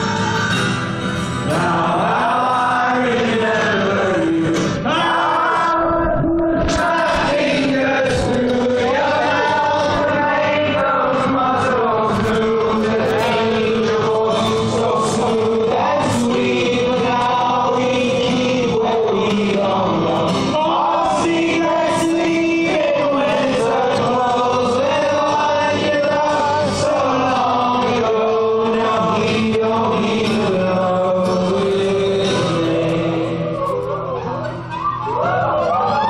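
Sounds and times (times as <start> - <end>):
man singing folk song: 0.0 - 34.4
strummed acoustic guitar: 0.0 - 34.8.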